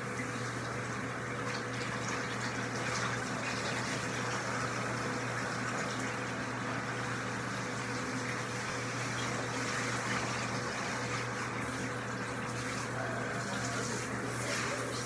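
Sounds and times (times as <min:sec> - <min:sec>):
shower sprayer running: 0:00.0 - 0:15.0.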